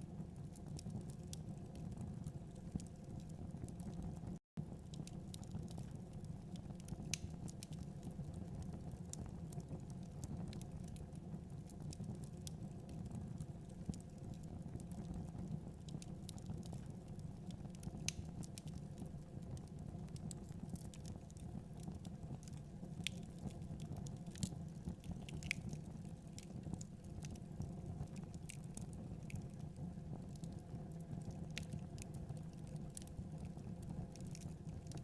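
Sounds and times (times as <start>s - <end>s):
low rumble of burning fire: 0.0s - 35.0s
fire crackling and popping: 0.1s - 35.0s.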